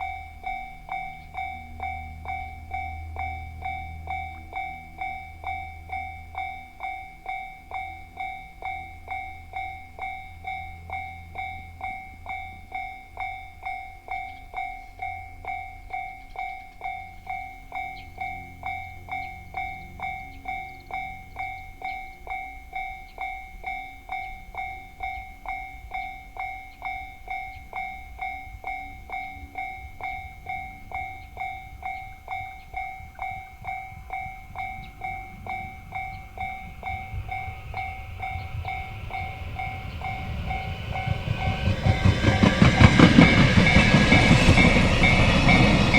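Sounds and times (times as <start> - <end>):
level-crossing warning bell ringing: 0.0 - 45.9
train rumbling on rails: 0.0 - 45.9.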